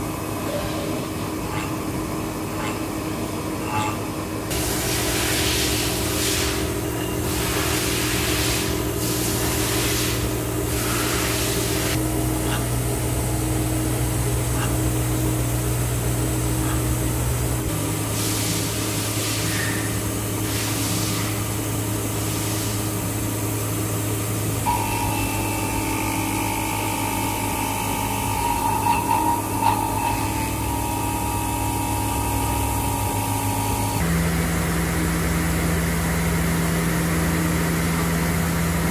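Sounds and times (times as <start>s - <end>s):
cnc machine milling hum: 0.0s - 38.9s
high steady whine: 0.0s - 38.9s.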